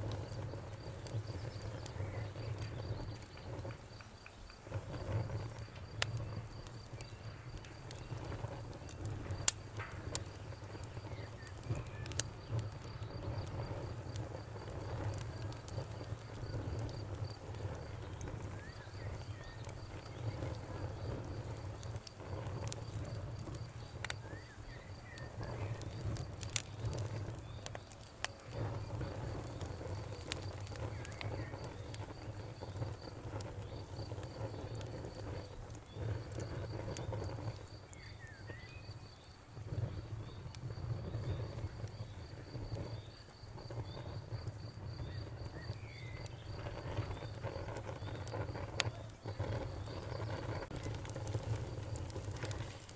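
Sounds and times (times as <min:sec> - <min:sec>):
cricket chirping: 0:00.0 - 0:52.8
campfire crackling and popping: 0:00.0 - 0:52.9
fire low rumble: 0:00.0 - 0:52.9.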